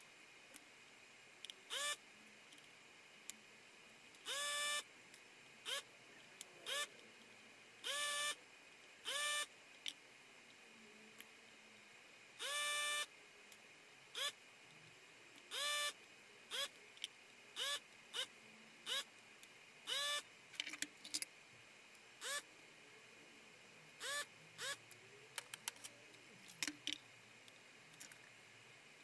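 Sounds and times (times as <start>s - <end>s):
desoldering pump whirring: 0.0s - 29.0s.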